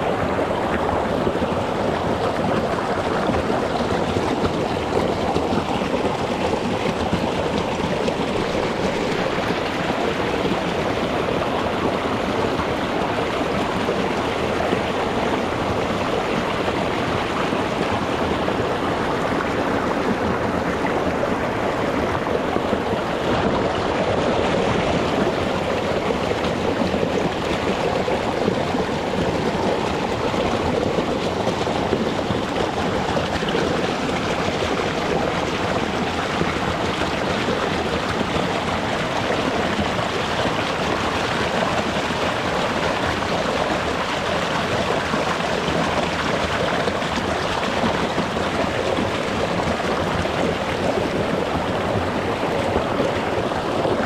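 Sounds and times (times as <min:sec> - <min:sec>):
mountain stream flowing over stones: 0:00.0 - 0:54.0.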